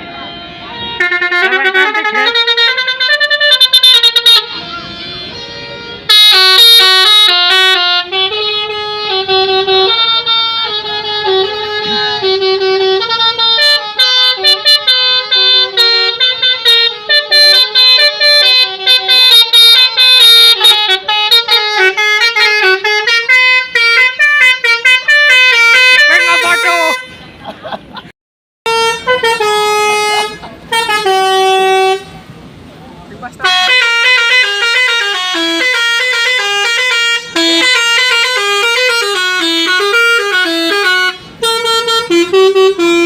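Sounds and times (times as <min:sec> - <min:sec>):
musical horn melody: 0:00.0 - 0:27.3, 0:28.6 - 0:32.3, 0:33.3 - 0:43.0.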